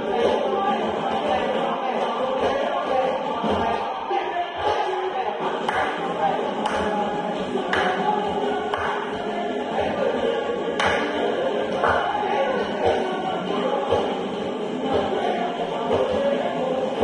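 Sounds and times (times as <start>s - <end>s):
group of voices singing: 0.0s - 17.0s
percussion: 0.0s - 17.0s.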